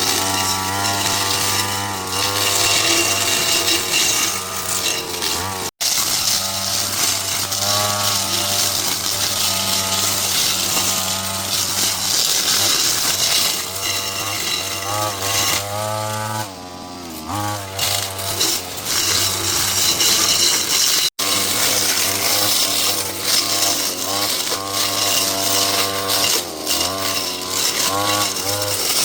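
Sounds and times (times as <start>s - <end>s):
small engine power tool running: 0.0s - 29.0s.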